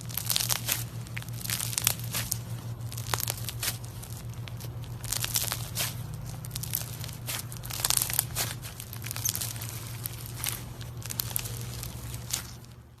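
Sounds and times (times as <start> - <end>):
slime crackling and squelching: 0.0 - 13.0
steady low hum: 0.0 - 13.0.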